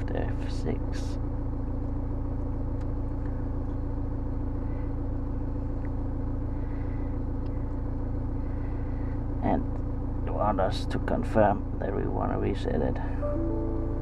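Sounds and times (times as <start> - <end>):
car engine hum from cabin: 0.0 - 14.0.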